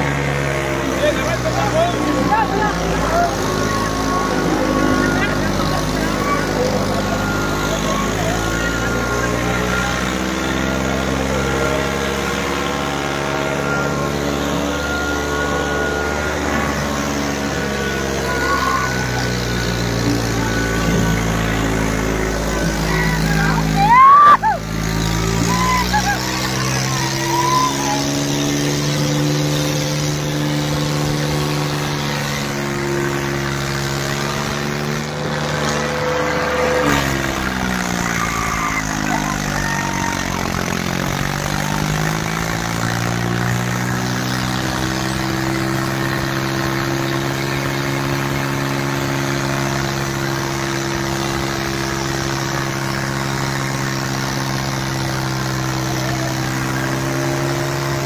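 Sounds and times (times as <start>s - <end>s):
tractor engines under heavy load: 0.0s - 58.0s.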